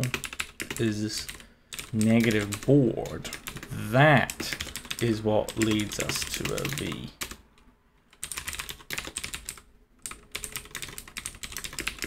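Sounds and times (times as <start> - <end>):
typing on a keyboard: 0.0 - 7.4, 8.1 - 12.0.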